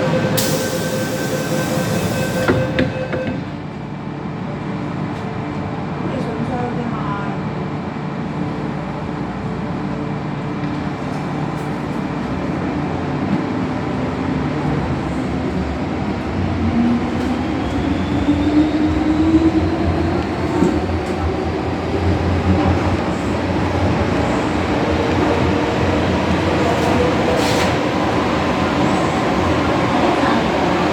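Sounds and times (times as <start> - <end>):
train running on track: 0.0 - 30.9.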